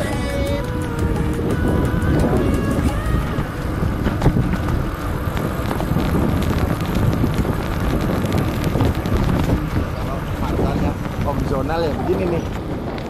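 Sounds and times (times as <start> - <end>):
tyre and road rumble: 0.0 - 13.0
wind buffeting microphone: 0.0 - 13.0.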